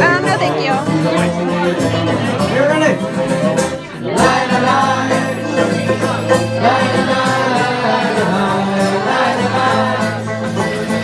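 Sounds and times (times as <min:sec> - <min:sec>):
instrumental folk accompaniment: 0:00.0 - 0:11.0
person singing folk song: 0:00.0 - 0:11.0.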